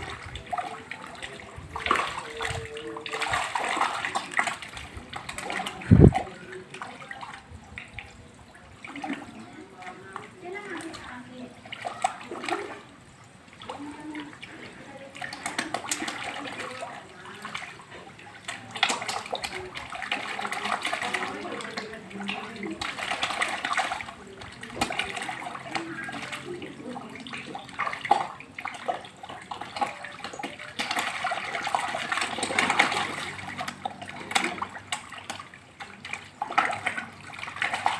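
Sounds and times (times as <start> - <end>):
fish thrashing and splashing water: 0.0 - 37.9.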